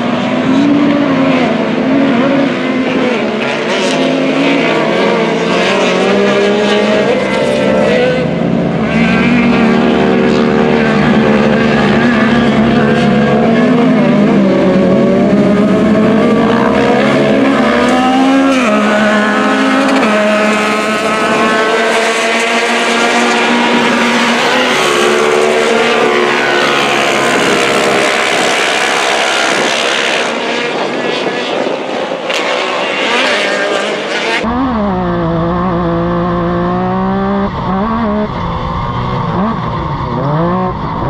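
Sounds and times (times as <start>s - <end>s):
race car engines revving: 0.0s - 41.0s.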